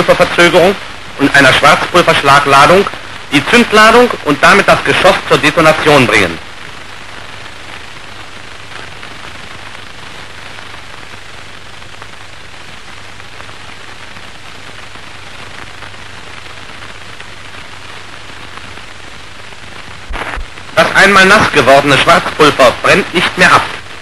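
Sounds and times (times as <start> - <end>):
film soundtrack hiss: 0.0 - 24.0.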